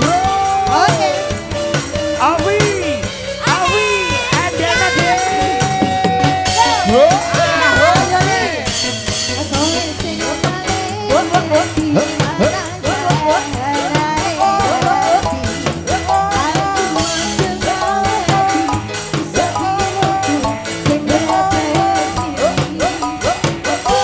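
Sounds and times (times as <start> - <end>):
hand drums: 0.0 - 24.0
keyboard melody: 0.0 - 24.0.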